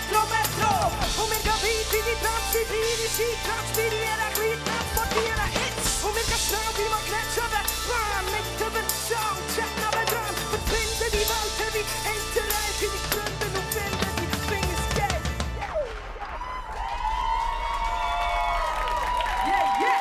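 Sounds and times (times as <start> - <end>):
hip-hop instrumental beat: 0.0 - 16.2.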